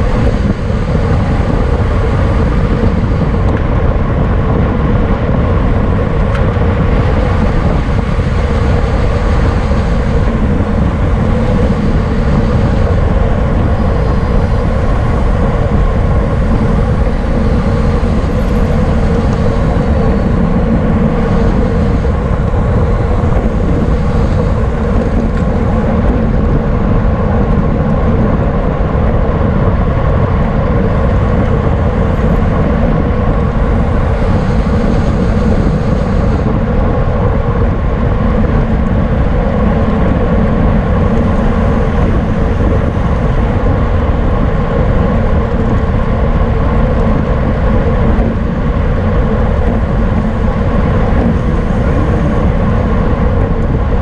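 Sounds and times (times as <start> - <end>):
bicycle tyre road noise: 0.0 - 54.0
constant hum: 0.0 - 54.0
wind rushing over microphone: 0.0 - 54.0.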